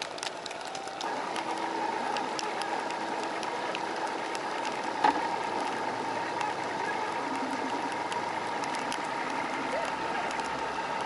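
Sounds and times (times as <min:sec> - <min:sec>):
outboard motor whining: 0:00.0 - 0:11.0
rain ticking: 0:00.0 - 0:11.0.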